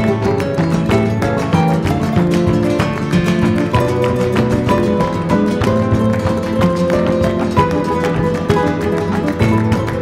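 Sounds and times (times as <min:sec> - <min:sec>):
flamenco acoustic guitar: 0:00.0 - 0:10.0.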